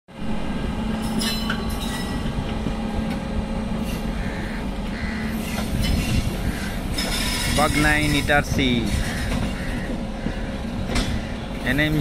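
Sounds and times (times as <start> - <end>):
locomotive low hum: 0.1 - 12.0
train wheels rumbling on rails: 0.1 - 12.0.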